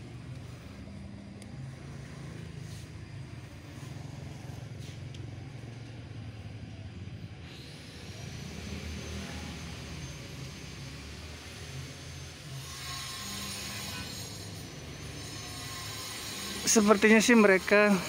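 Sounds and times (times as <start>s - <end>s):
low hum of traffic: 0.0s - 18.0s.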